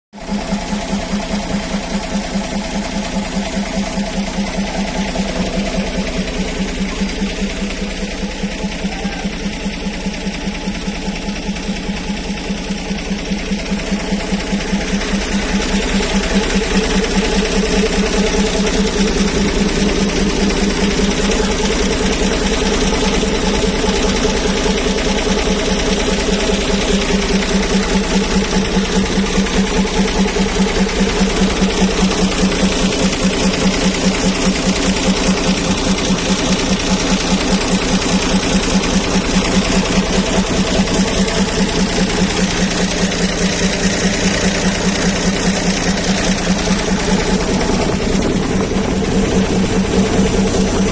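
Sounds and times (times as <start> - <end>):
diesel truck engine running: 0.2 - 50.9.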